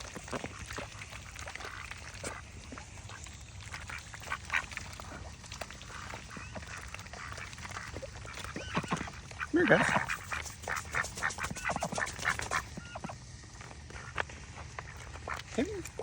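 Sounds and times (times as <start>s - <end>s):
ducks quacking: 1.6s - 13.2s, 13.9s - 16.0s.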